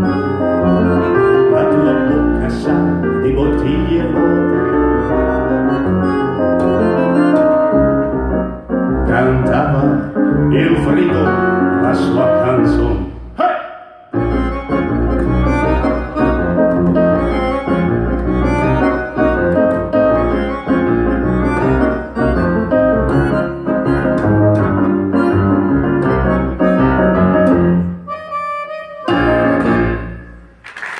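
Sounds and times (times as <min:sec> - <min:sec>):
accordion playing: 0:00.0 - 0:12.4, 0:14.1 - 0:30.4
double bass line: 0:00.0 - 0:13.3, 0:14.2 - 0:30.5.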